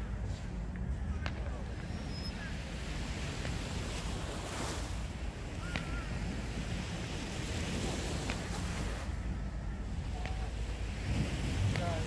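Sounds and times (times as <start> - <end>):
surf on shore: 0.0 - 12.0
wind buffeting microphone: 0.0 - 12.0.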